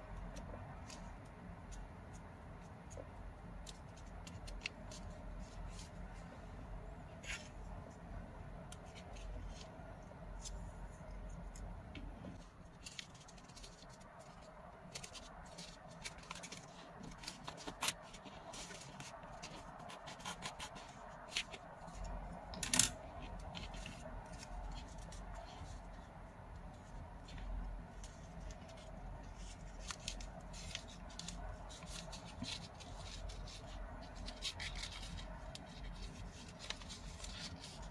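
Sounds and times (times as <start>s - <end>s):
paper crackles and taps: 0.2s - 6.0s, 11.4s - 25.9s, 26.8s - 37.9s
paper crinkling and rustling: 3.6s - 6.4s, 8.6s - 37.9s.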